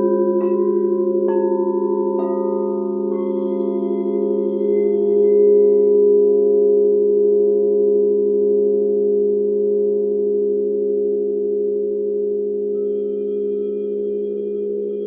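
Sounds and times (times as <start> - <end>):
faint higher tone: 0.0 - 15.0
singing bowls ringing: 0.0 - 15.0.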